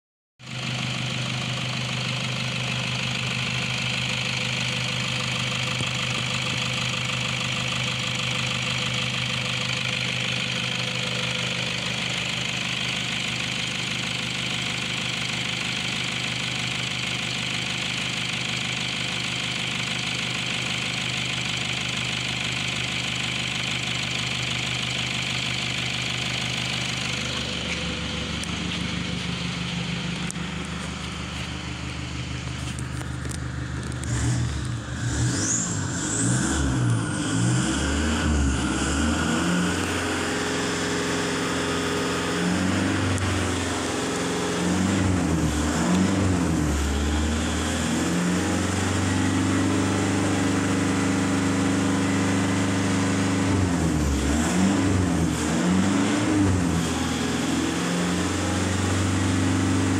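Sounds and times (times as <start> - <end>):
diesel engine idling with clatter: 0.4 - 59.9.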